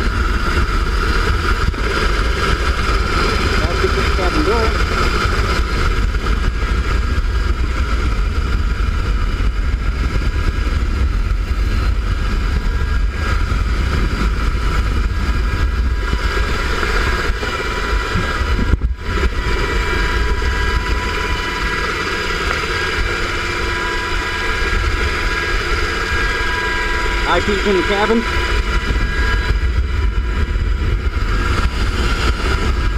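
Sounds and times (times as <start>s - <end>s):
helicopter engine rumble: 0.0s - 32.9s
turbine whines: 0.0s - 32.9s.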